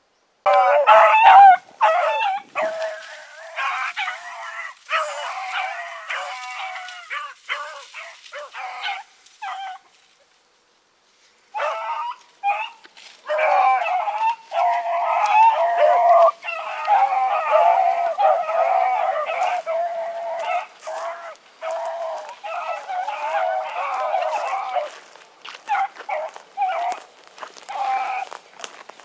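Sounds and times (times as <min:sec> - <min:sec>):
hounds baying: 0:00.5 - 0:10.0, 0:11.4 - 0:29.0.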